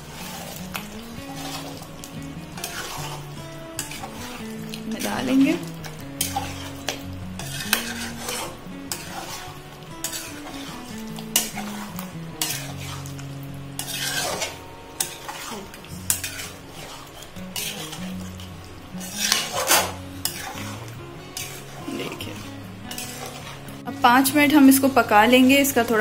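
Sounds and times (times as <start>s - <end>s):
metal spatula scraping a pan: 0.0s - 24.2s
soft sizzle: 0.0s - 26.0s.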